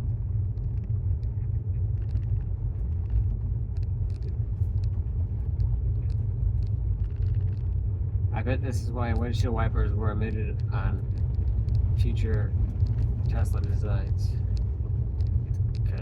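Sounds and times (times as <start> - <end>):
faint ticks: 0.0 - 7.8, 9.0 - 16.0
road and tyre rumble in car: 0.0 - 16.0.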